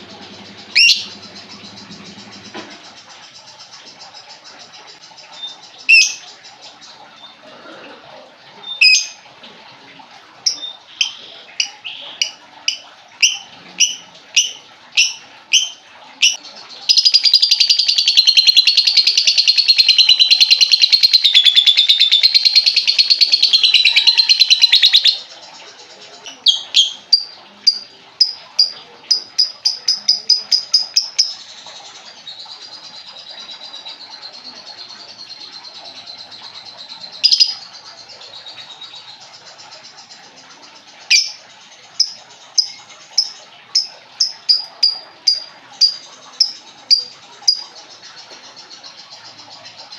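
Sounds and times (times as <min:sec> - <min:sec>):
lovebird chirping and trilling: 0:00.3 - 0:06.3, 0:10.5 - 0:25.2, 0:26.3 - 0:31.5, 0:32.2 - 0:39.2, 0:41.1 - 0:41.4, 0:42.0 - 0:49.0.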